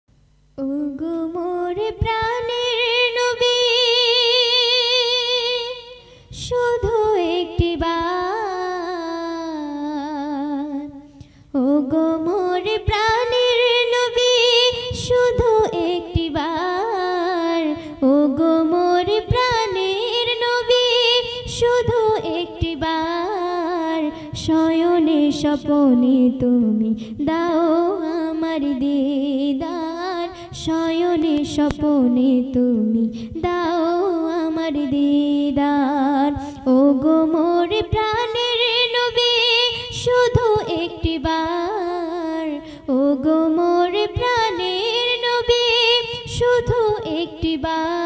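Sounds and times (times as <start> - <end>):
girl singing into a microphone: 0.2 - 48.0.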